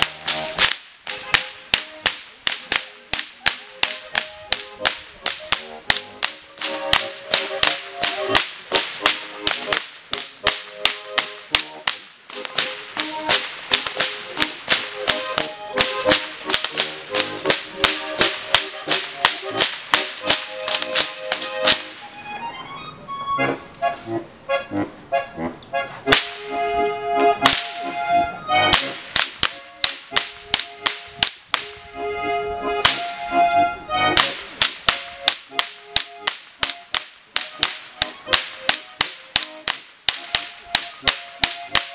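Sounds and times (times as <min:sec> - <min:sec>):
whips cracking: 0:00.0 - 0:22.0, 0:26.1 - 0:26.4, 0:27.4 - 0:27.9, 0:28.6 - 0:31.8, 0:32.8 - 0:33.2, 0:34.0 - 0:41.9.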